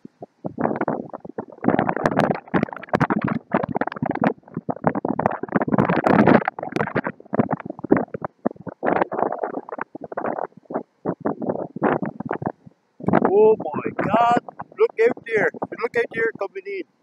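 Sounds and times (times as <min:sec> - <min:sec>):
wind buffeting microphone: 0:00.0 - 0:16.5.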